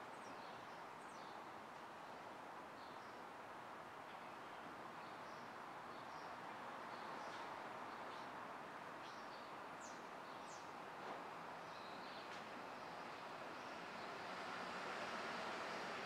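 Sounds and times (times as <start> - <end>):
distant street traffic hum: 0.1 - 16.0.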